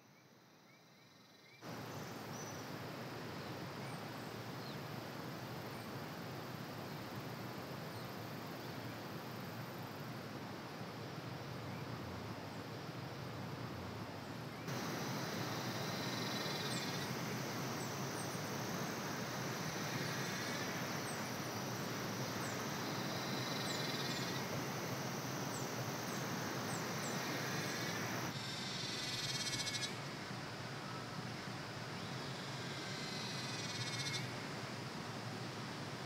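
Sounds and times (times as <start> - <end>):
background hiss: 0.0 - 36.0.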